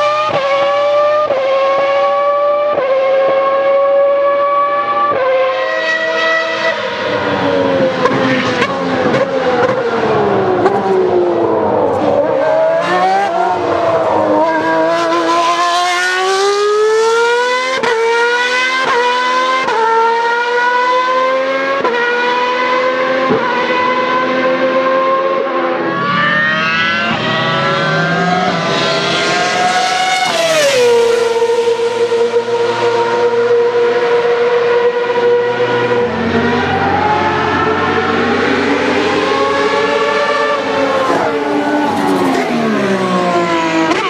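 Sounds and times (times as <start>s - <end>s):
racing car engine at high revs: 0.0s - 44.0s.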